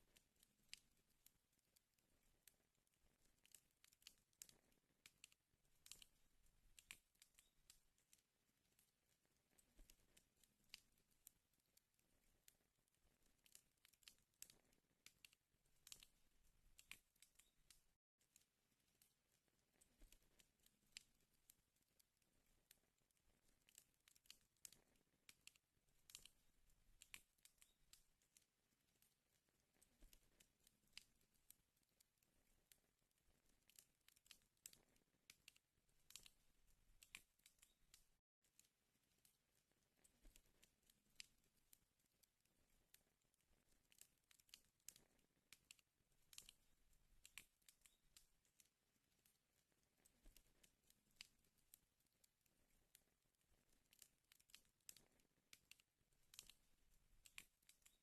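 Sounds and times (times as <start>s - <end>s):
faint wood fire crackling: 0.0s - 58.0s.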